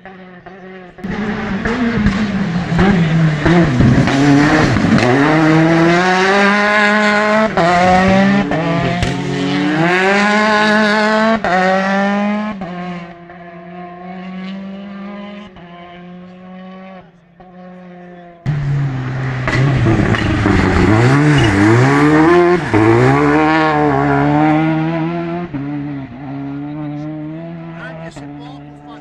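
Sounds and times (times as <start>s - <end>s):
rally car engine revving past: 0.0s - 29.0s.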